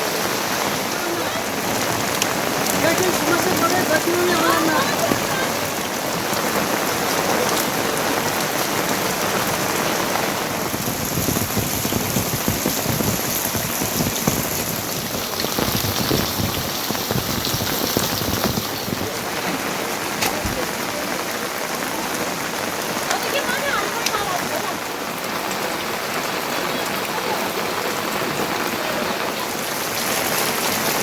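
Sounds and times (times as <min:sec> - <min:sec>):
heavy rain spattering: 0:00.0 - 0:31.0.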